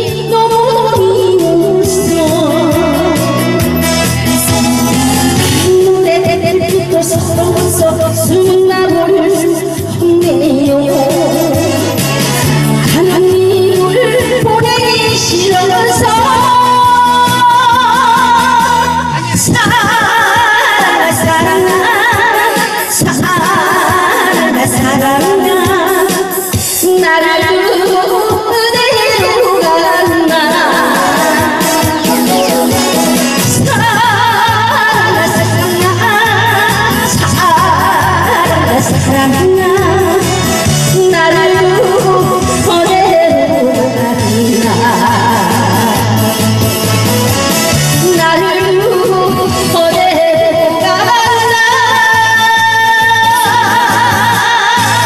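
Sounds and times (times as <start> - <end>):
recorded accompaniment over speaker: 0.0 - 55.0
woman singing into a microphone: 0.0 - 55.0.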